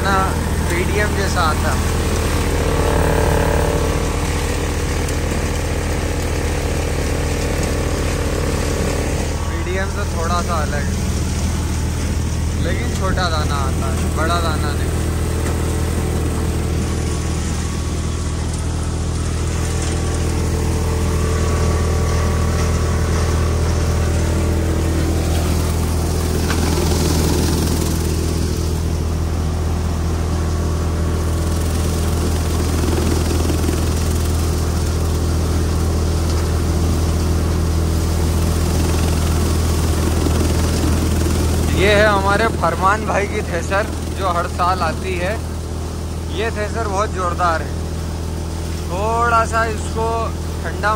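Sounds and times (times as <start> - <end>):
crop rushing through thresher: 0.0 - 50.9
thresher and tractor engine drone: 0.0 - 50.9.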